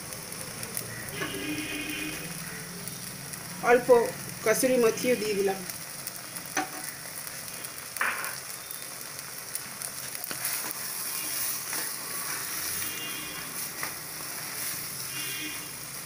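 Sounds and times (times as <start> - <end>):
gravy sizzling in a pan: 0.0 - 16.0.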